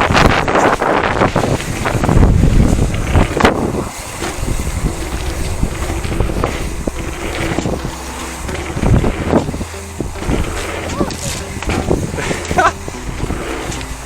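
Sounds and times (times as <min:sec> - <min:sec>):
knocks and rattles: 0:00.0 - 0:14.0
wind buffeting microphone: 0:00.0 - 0:14.0.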